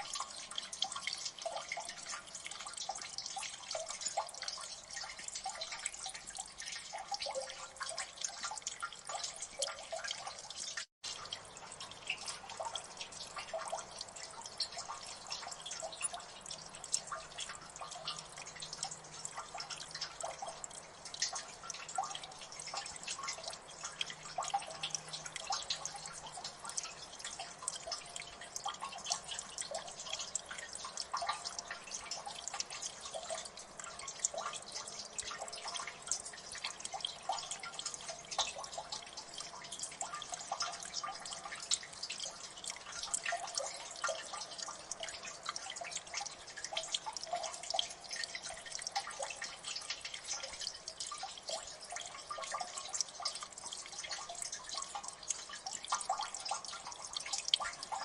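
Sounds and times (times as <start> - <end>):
soft water trickle: 0.0 - 58.0
water drops plinking into water: 0.0 - 58.0.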